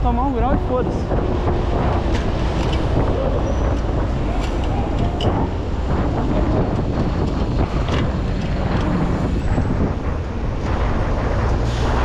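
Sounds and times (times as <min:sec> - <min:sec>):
low rumble: 0:00.0 - 0:12.0
wind rushing over microphone: 0:00.0 - 0:12.0.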